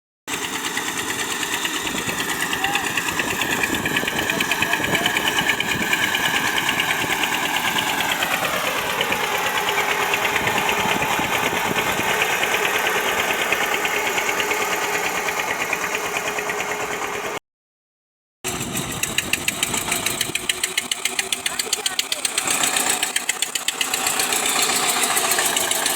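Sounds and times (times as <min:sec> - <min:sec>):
tractor diesel engine running: 0:00.3 - 0:17.4, 0:18.5 - 0:25.9.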